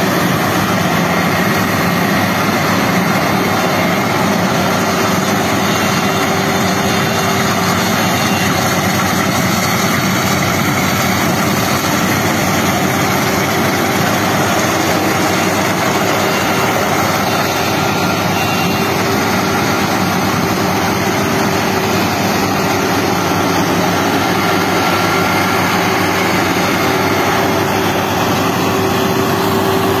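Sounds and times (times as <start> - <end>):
combine harvester engine drone: 0.0 - 30.0.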